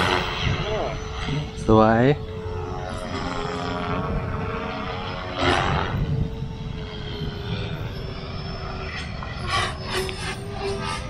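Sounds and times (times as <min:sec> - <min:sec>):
helicopter rotor and motor whine: 0:00.0 - 0:11.0.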